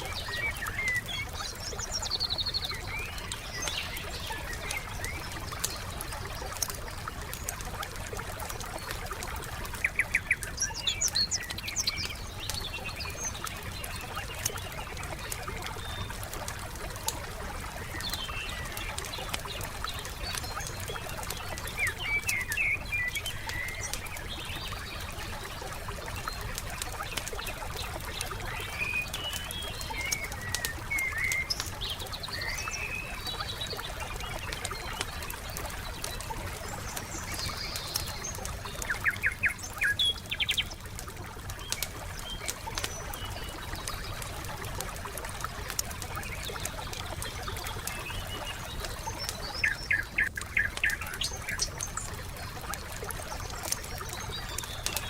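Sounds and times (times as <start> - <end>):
campfire crackling: 0.0 - 55.0
songbirds chirping: 0.0 - 55.0.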